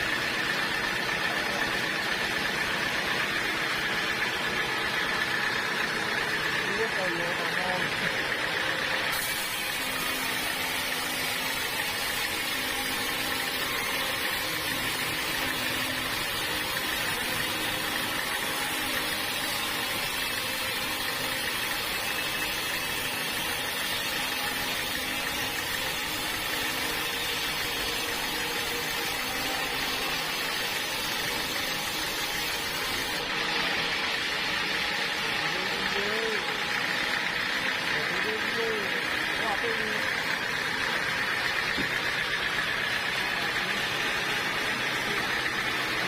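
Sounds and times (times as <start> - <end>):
motor running: 0.0 - 46.0.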